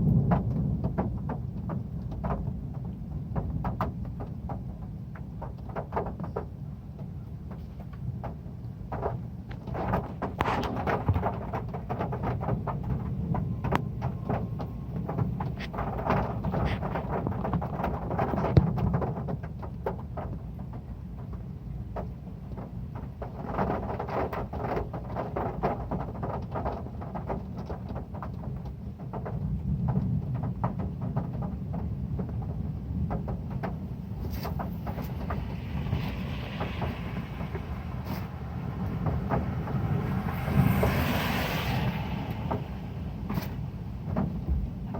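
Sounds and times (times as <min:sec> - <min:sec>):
heavy rain on a metal roof: 0:00.0 - 0:44.9.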